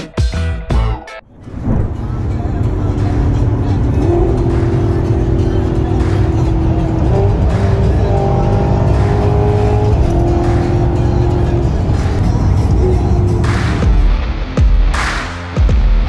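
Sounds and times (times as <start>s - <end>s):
background music: 0.0s - 16.0s
car engine and road rumble: 1.2s - 14.2s.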